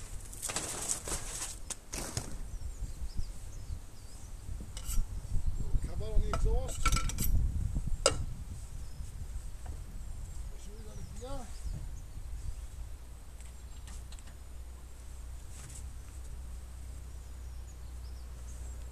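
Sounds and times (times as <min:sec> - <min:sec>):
wind rumble on microphone: 0:02.1 - 0:18.9.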